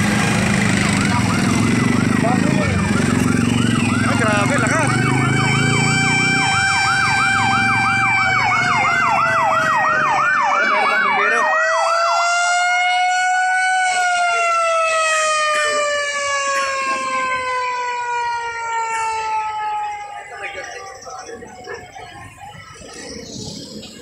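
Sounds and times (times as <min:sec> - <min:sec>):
siren wail: 0:00.0 - 0:24.0
siren yelp: 0:00.0 - 0:24.0.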